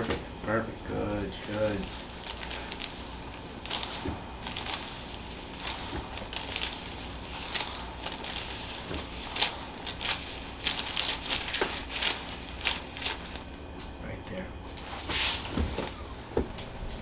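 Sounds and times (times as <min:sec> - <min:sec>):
rustling and crinkling: 0:01.3 - 0:17.0.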